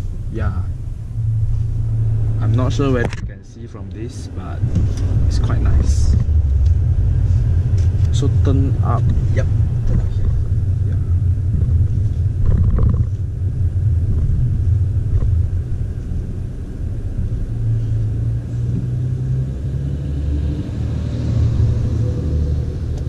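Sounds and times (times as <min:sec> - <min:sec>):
car cabin engine rumble: 0:00.0 - 0:23.0
tyres on road: 0:00.0 - 0:23.0.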